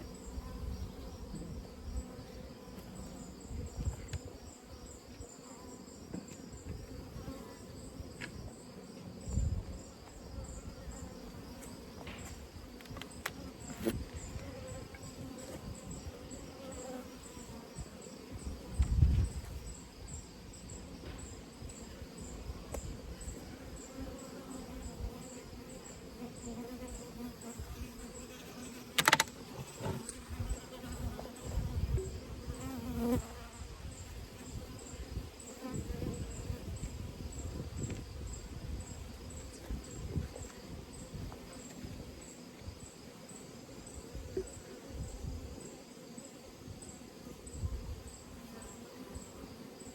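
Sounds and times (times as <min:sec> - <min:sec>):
honeybees buzzing: 0:00.0 - 0:49.9
insects chirping: 0:00.0 - 0:49.9.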